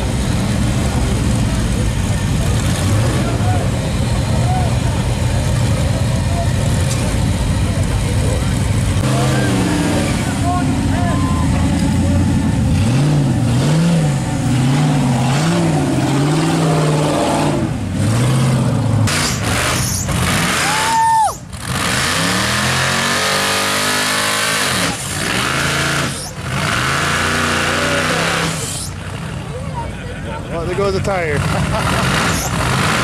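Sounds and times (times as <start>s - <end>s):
buggy engine revving: 0.0s - 33.0s.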